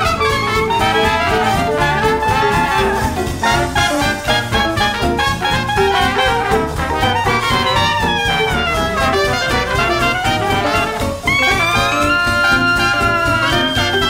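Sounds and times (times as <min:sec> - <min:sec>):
jazz music with brass: 0:00.0 - 0:14.0.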